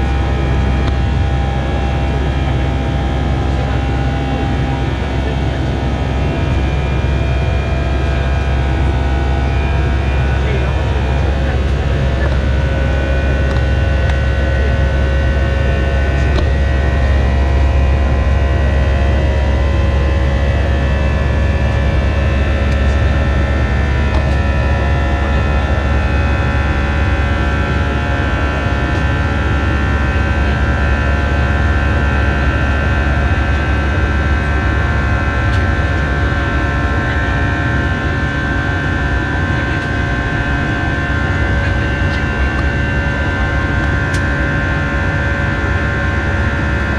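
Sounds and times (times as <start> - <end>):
jet engine cabin drone: 0.0 - 46.9
steady whining tones: 0.0 - 46.9.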